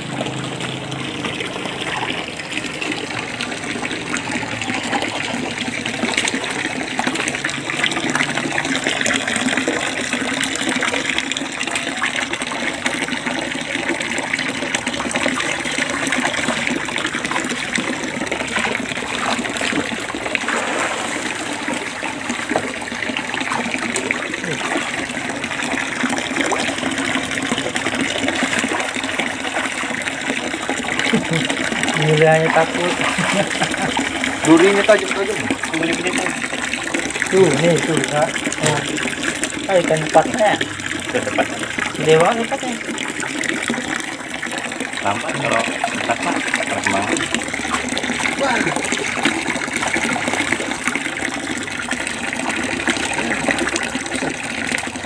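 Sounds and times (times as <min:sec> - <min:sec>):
water splashing into pool: 0:00.0 - 0:55.0.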